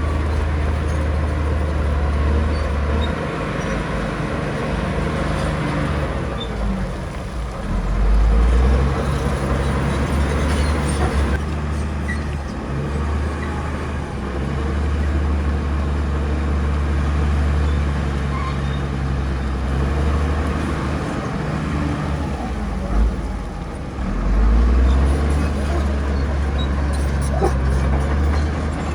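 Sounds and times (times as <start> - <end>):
heavy diesel engine droning: 0.0 - 28.9.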